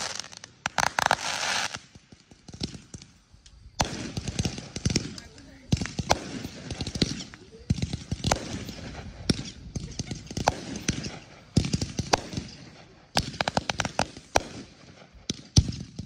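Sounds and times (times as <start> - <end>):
fireworks cracks and bangs: 0.0 - 16.0.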